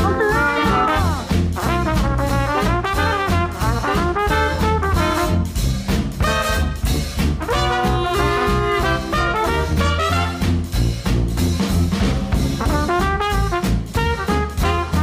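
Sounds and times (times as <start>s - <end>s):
upbeat brass-led jazzy music: 0.0s - 15.0s.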